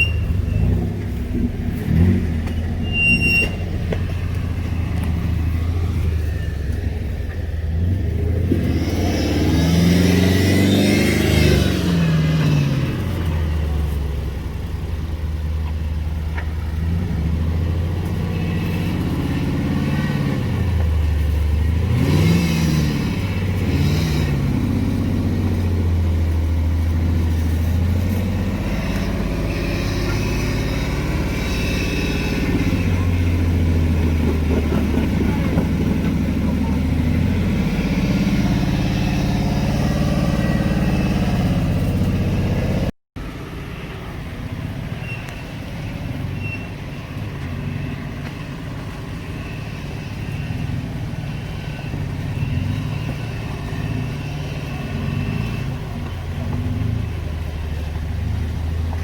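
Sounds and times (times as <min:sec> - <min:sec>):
engine revving: 0:00.0 - 0:15.4, 0:16.6 - 0:43.0, 0:47.2 - 0:59.0.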